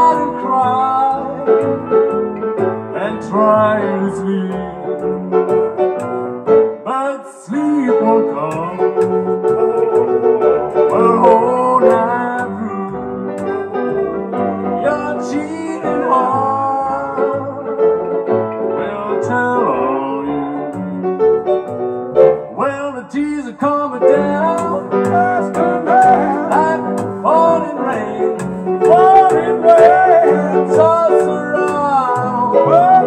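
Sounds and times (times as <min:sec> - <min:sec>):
plucked double bass: 0:00.0 - 0:06.6, 0:08.0 - 0:22.9, 0:23.7 - 0:33.0
rock and roll piano: 0:00.0 - 0:33.0.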